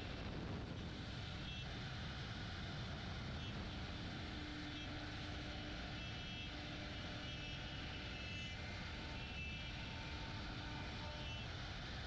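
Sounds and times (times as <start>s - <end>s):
faint whining tones: 0.0s - 12.0s.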